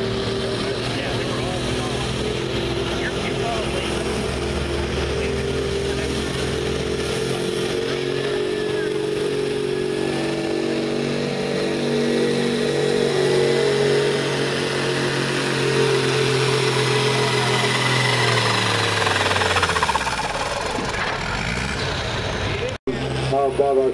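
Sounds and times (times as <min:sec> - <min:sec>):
tractor diesel engine under load: 0:00.0 - 0:23.9.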